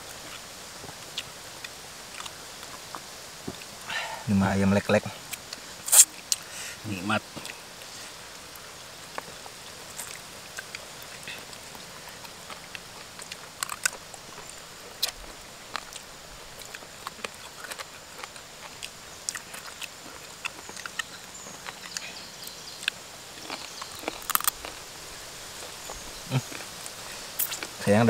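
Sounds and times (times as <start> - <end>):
people chewing food: 0.0 - 4.1, 5.2 - 28.0
faint outdoor hiss: 0.0 - 28.0.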